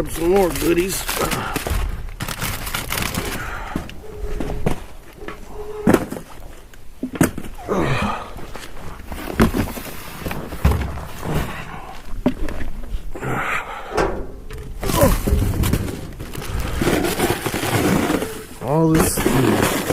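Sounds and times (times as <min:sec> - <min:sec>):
cardboard boxes knocking and rustling: 0:00.2 - 0:05.0, 0:05.8 - 0:07.6, 0:08.4 - 0:12.8, 0:14.6 - 0:19.9.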